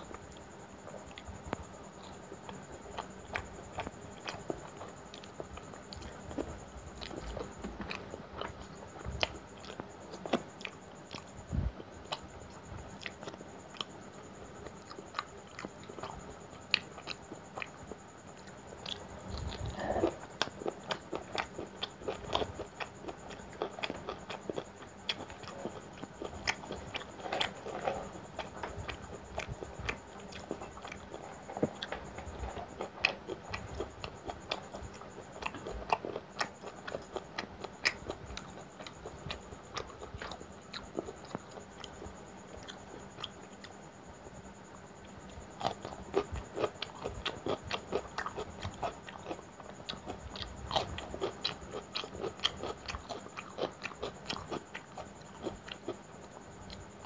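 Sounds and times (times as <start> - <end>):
person chewing and smacking: 0.1 - 11.4, 12.1 - 43.8, 45.0 - 57.0.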